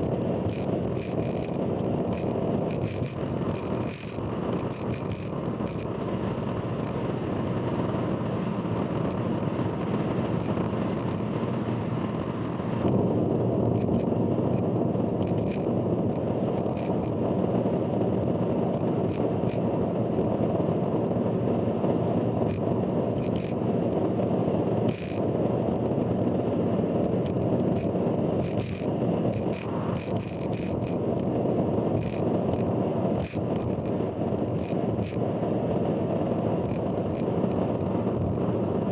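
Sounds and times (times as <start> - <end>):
road and tyre noise inside car: 0.0 - 38.9.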